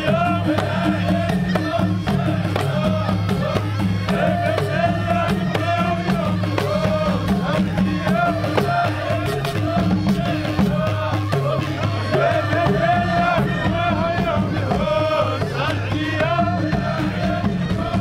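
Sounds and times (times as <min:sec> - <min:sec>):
chanted wavering melody: 0:00.0 - 0:18.0
drums beating: 0:00.0 - 0:18.0.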